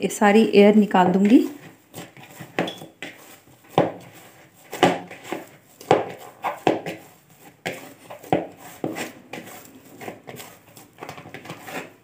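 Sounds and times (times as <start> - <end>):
dough squishing: 0.7 - 12.0
dough being punched: 1.2 - 12.0.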